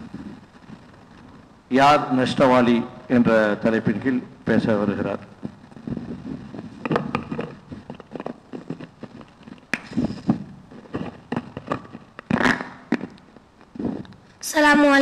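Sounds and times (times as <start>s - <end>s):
scraping rub on microphone: 0.0s - 1.5s, 2.4s - 14.3s
headset microphone handling noise: 0.0s - 15.0s.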